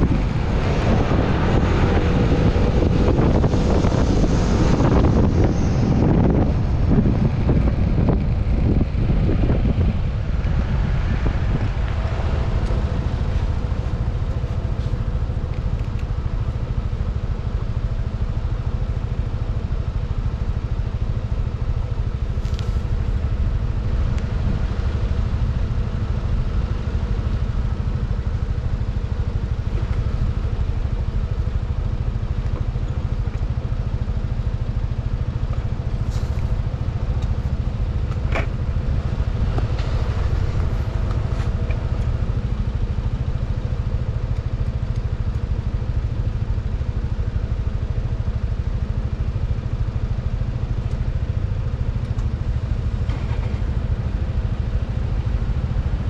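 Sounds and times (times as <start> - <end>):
scooter engine running steadily: 0.0 - 56.0.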